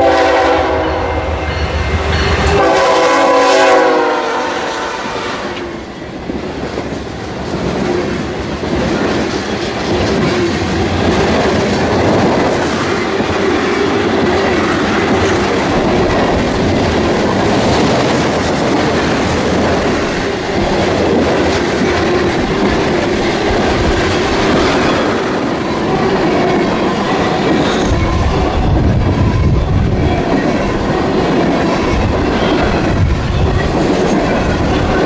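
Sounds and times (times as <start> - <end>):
train wheels clicking over rail joints: 5.5 - 35.0.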